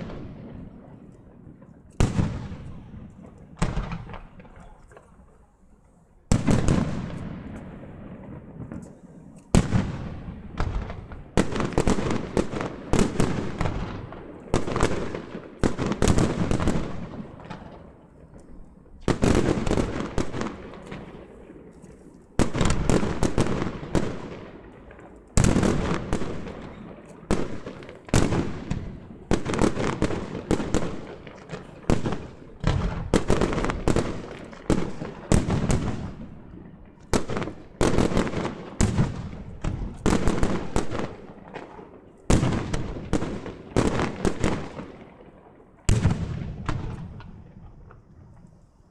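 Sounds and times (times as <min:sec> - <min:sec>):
fireworks bangs with rumble: 0:00.0 - 0:05.4, 0:06.3 - 0:18.1, 0:18.9 - 0:21.7, 0:22.4 - 0:48.6
fireworks crackling pops: 0:00.0 - 0:48.9.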